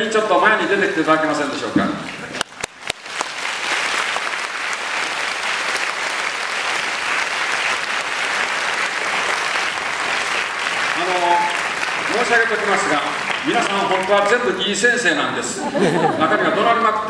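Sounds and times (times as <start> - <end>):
audience applauding: 2.0 - 16.3.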